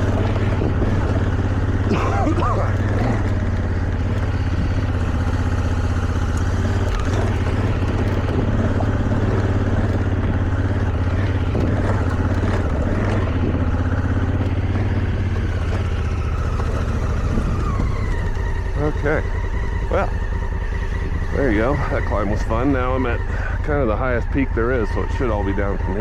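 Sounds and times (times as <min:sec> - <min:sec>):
motorcycle engine under load: 0:00.0 - 0:26.0
rough trail noise: 0:00.0 - 0:26.0.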